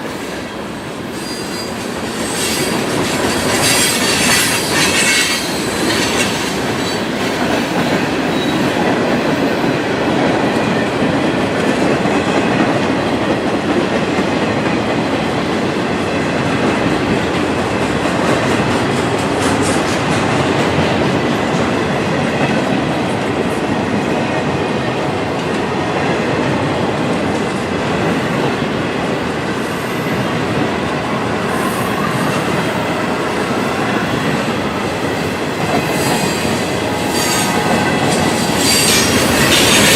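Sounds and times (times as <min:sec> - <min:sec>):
freight train wheels rumbling: 0:00.0 - 0:39.9
clickety-clack over rail joints: 0:01.2 - 0:39.9.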